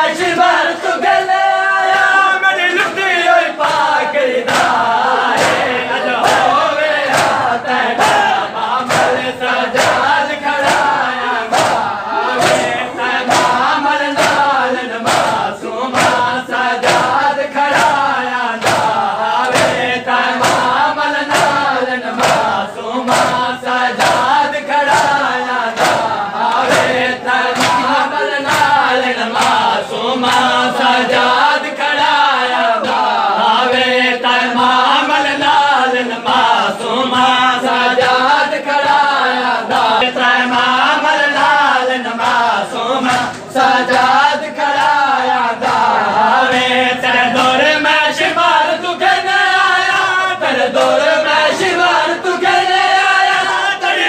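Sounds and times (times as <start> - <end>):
men chanting in unison: 0.0 - 54.0
rhythmic chest-beating: 0.0 - 54.0.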